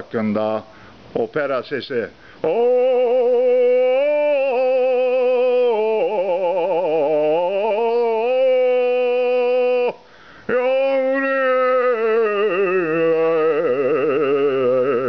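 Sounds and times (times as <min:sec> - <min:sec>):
man singing operatic note: 0:02.4 - 0:15.0.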